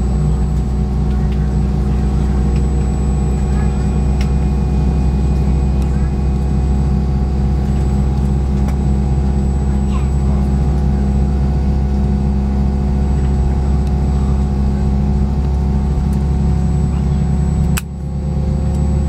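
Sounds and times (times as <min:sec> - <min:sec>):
jet engine idling drone: 0:00.0 - 0:19.0.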